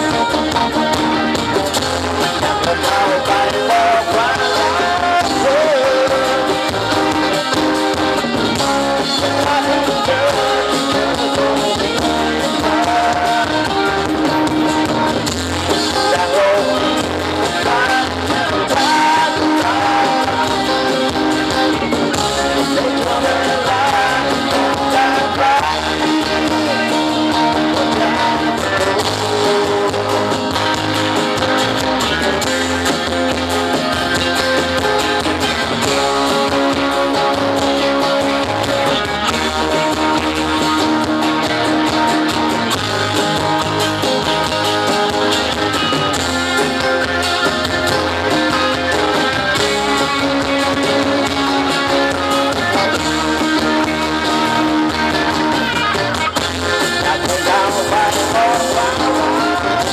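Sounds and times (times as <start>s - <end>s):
person singing: 0.0s - 33.2s, 34.3s - 59.9s
guitar accompaniment: 0.0s - 59.9s.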